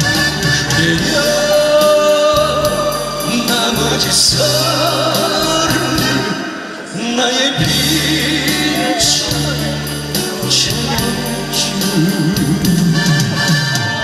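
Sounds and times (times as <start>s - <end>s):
man singing into a microphone: 0.0s - 13.1s
band backing track through speakers: 0.0s - 14.0s.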